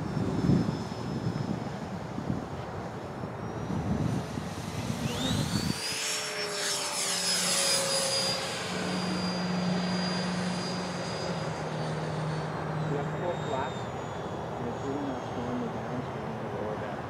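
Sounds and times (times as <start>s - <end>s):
model jet fan whining: 0.0s - 17.0s.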